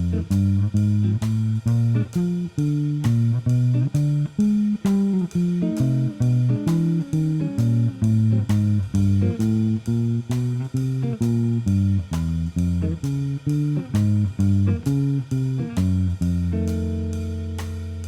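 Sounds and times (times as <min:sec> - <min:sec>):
blues guitar music: 0:00.0 - 0:18.0
walking bass line: 0:00.0 - 0:18.0.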